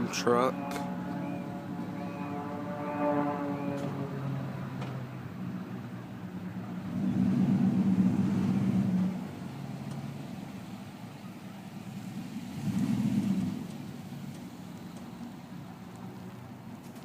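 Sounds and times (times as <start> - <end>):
motor engine droning: 0.0 - 16.4.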